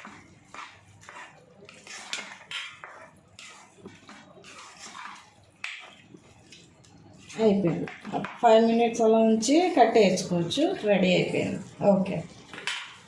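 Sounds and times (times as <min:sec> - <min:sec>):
metal spoon stirring in pot: 0:00.0 - 0:13.0.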